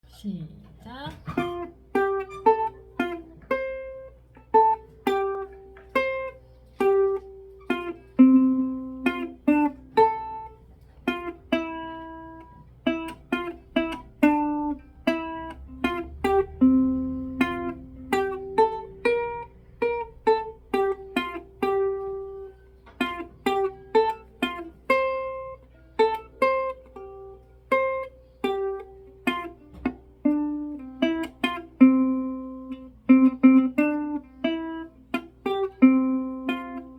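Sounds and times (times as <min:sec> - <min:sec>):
solo instrumental melody: 0:00.9 - 0:36.9.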